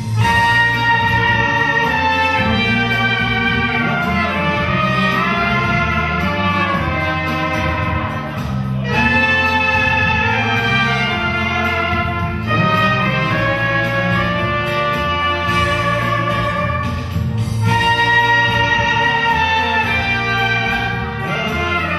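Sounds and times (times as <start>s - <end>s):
brass band music: 0.0s - 21.9s.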